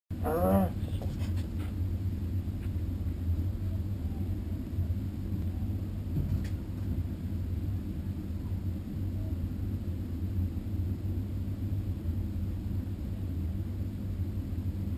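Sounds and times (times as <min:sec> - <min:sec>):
steady low rumble: 0:00.2 - 0:14.9.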